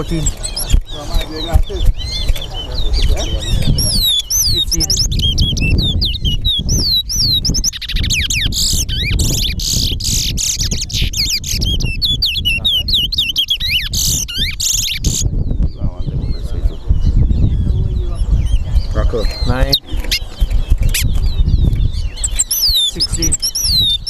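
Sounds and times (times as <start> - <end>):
finches whistled warbling: 0.0 - 15.3, 17.0 - 24.0.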